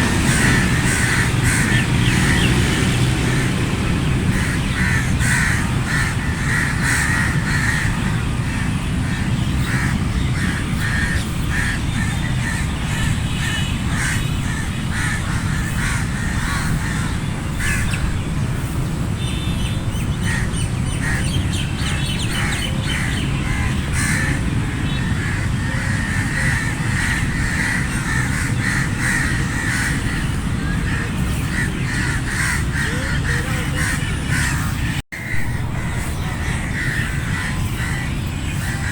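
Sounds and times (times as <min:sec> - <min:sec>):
crows cawing: 0:00.0 - 0:02.5, 0:04.3 - 0:18.2, 0:20.2 - 0:38.9.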